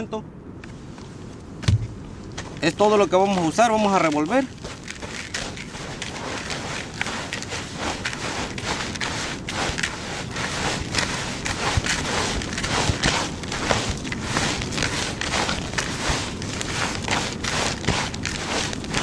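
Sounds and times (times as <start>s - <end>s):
small rustles and clicks: 0.6s - 19.0s.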